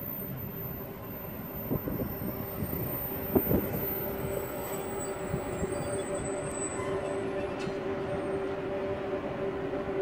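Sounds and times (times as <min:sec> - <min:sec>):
electric locomotive hum and whine: 0:00.0 - 0:10.0
wheels clacking on track: 0:00.0 - 0:10.0.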